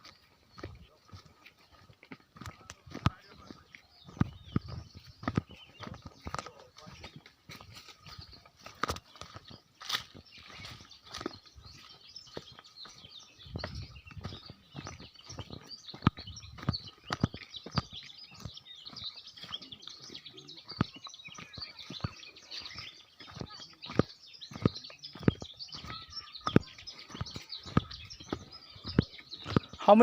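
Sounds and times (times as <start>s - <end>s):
footsteps on a trail: 0.0s - 30.0s
small birds chirping: 0.0s - 30.0s.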